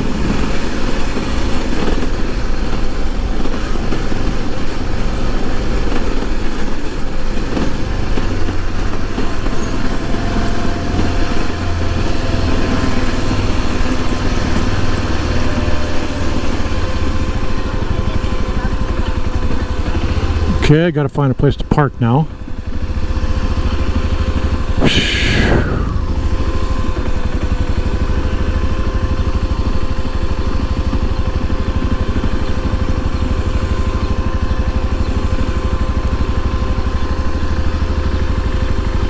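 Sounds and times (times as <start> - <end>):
motorcycle engine running: 0.0 - 20.6, 25.6 - 39.0.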